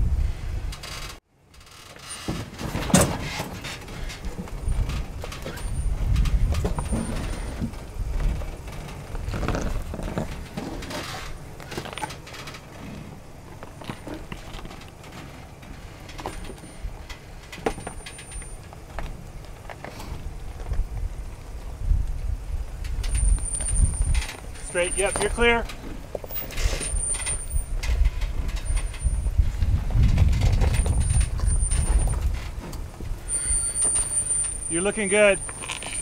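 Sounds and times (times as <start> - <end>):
truck engine rumble: 0.0 - 36.0
knocks and scrapes: 0.6 - 20.9, 22.8 - 36.0
tyres crunching over rock: 1.9 - 36.0.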